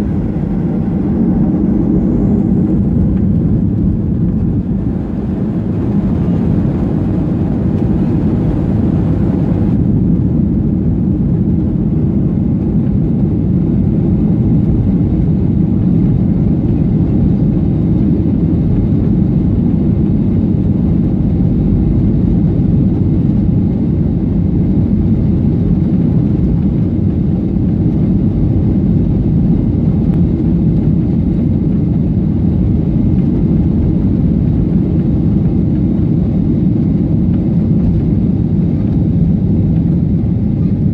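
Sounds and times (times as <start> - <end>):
jet engines and airframe rumble: 0.0 - 40.9.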